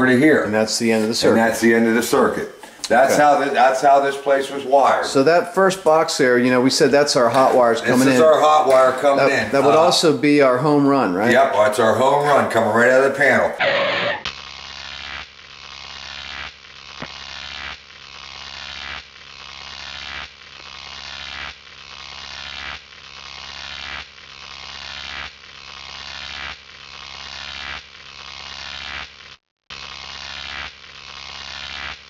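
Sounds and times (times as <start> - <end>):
looped electronic buzz: 0.0 - 32.0.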